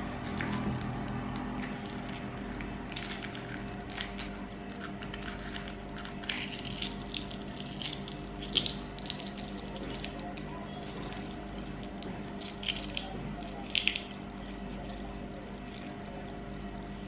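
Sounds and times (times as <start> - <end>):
eggshell crackling: 0.0 - 17.0.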